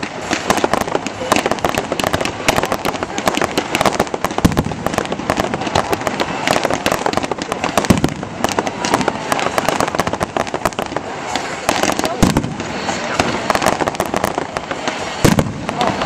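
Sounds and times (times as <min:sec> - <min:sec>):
deep fireworks bangs: 0:00.0 - 0:16.0
fireworks crackling and popping: 0:00.0 - 0:16.0.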